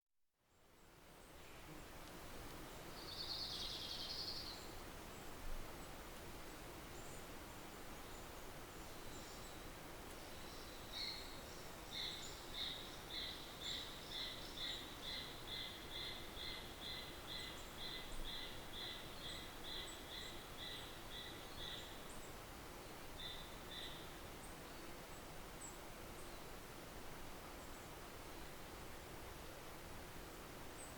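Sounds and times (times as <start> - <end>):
steady outdoor hiss: 0.3 - 30.9.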